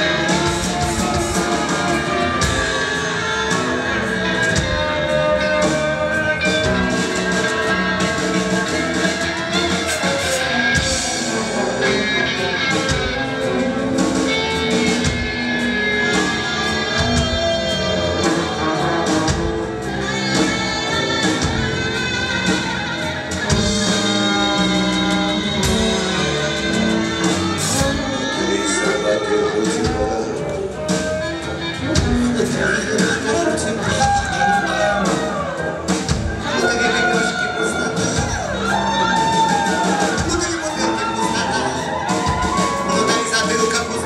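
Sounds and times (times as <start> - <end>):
live band playing instrumental: 0.0 - 44.0.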